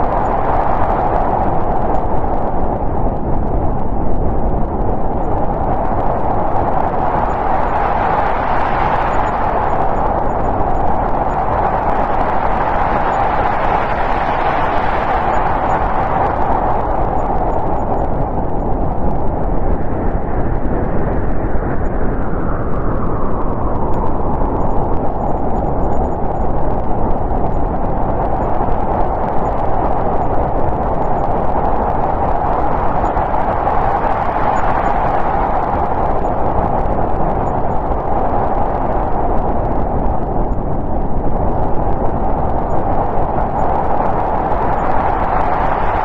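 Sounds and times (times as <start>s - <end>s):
whistling snowstorm wind: 0.0s - 46.0s.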